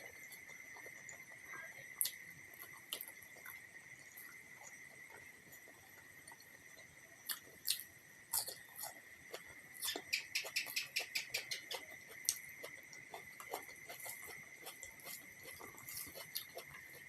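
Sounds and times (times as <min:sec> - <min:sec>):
chewing and smacking food: 0:00.0 - 0:17.0.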